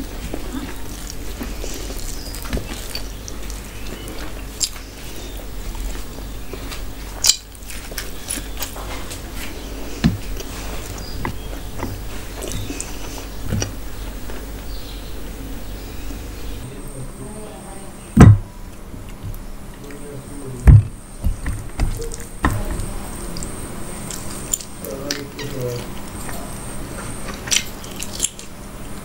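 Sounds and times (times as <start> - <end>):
person chewing food: 0.0 - 16.6, 20.9 - 29.0.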